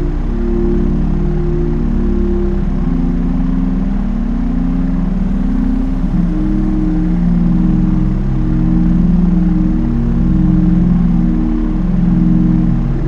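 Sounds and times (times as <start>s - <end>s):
light aircraft engine drone: 0.0s - 13.0s.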